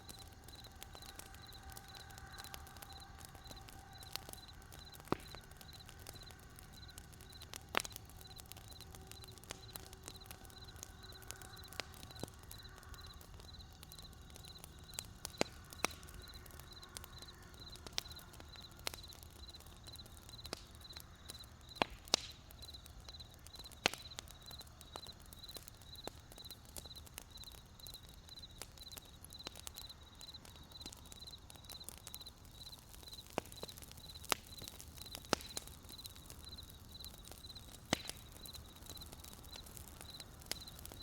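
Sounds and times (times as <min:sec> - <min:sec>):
crickets chirping: 0:00.0 - 0:21.8, 0:22.6 - 0:41.0
campfire crackling and popping: 0:00.0 - 0:41.0.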